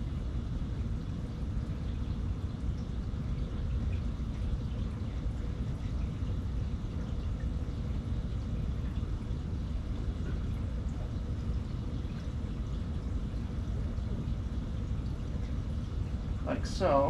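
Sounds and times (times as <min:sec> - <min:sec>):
aquarium water bubbling: 0:00.0 - 0:17.0.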